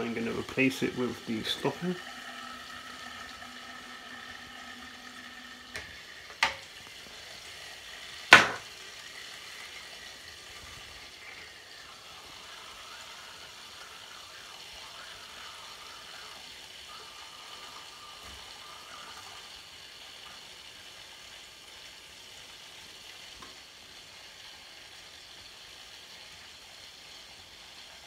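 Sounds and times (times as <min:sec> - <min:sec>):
water hissing and gurgling: 0:00.0 - 0:28.0.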